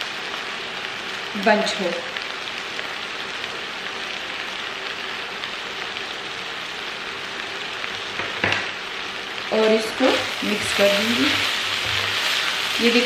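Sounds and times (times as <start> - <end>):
minced meat sizzling in a pan: 0.0 - 13.0.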